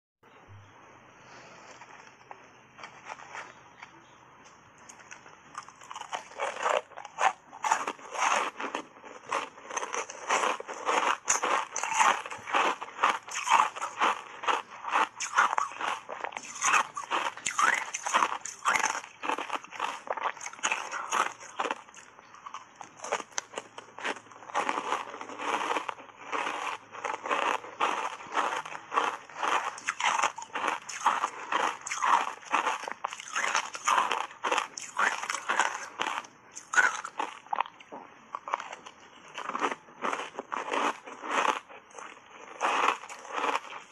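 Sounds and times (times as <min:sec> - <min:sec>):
ice being bitten and chewed: 0:04.9 - 0:43.9.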